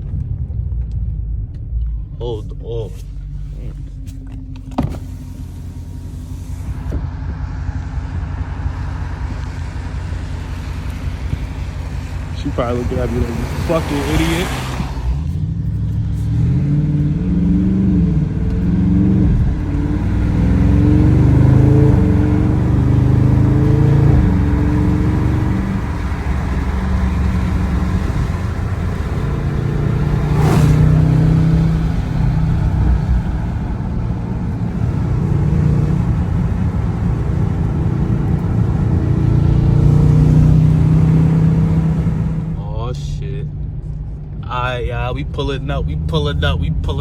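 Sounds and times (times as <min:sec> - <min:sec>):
car exhaust note driving: 0:00.0 - 0:47.0.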